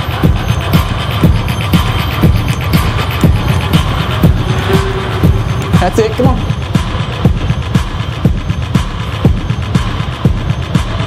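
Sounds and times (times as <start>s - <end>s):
dance music: 0.0s - 11.0s.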